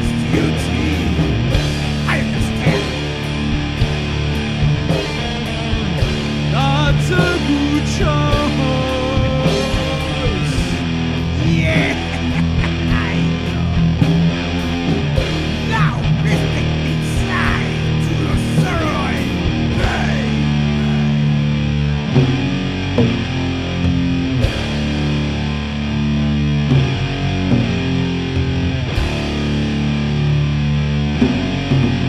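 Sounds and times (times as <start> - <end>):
distorted electric guitar riff: 0.0 - 32.0.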